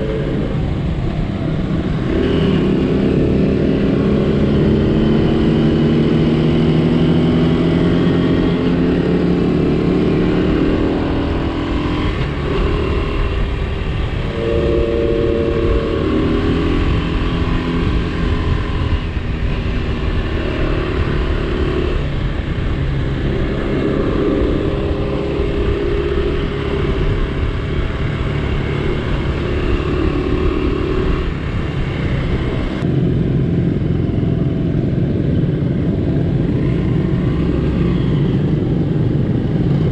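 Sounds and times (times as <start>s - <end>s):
low wind rumble: 0.0s - 39.9s
motorcycle engine running: 0.0s - 39.9s.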